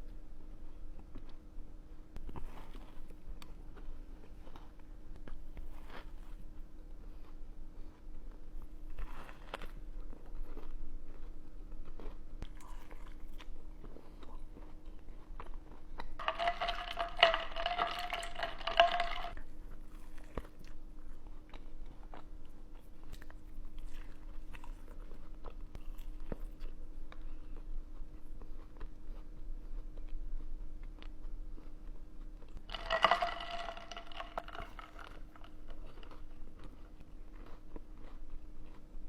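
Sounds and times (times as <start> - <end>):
chewing and crunching food: 0.0 - 39.0.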